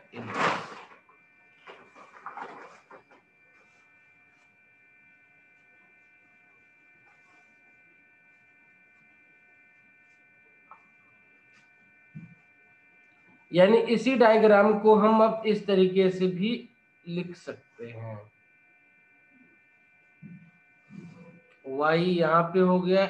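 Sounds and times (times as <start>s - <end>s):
faint electrical whine: 0.0s - 23.0s.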